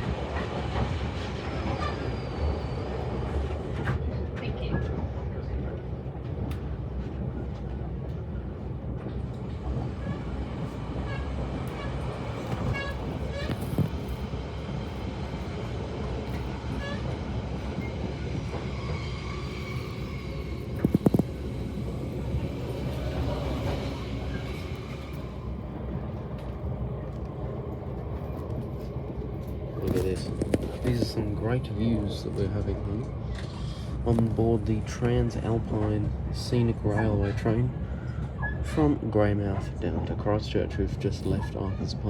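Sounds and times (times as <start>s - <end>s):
train rumbling: 0.0s - 42.0s.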